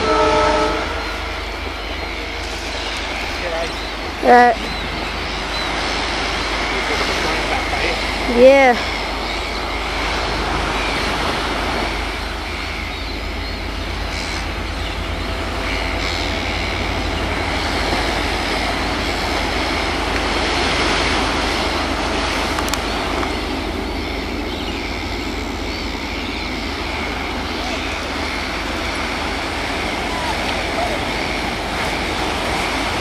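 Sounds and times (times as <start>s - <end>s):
distant diesel locomotive passing: 0.0s - 33.0s
surf and wind rushing: 0.0s - 33.0s.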